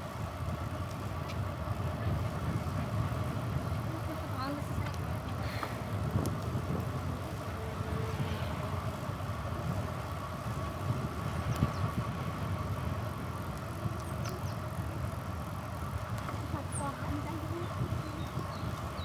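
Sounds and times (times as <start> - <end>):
light bicycle clicks: 0.0 - 19.0
tyres and wind rumble: 0.0 - 19.0.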